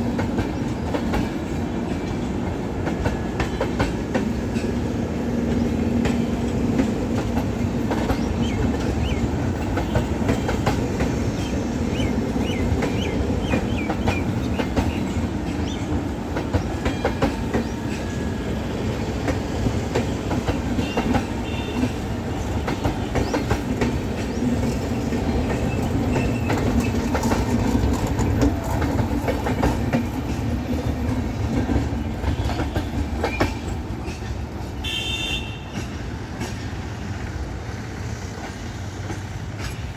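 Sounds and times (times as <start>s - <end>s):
train wheels clattering over joints: 0.0s - 34.8s, 35.7s - 39.9s
continuous train rumble: 0.0s - 39.9s.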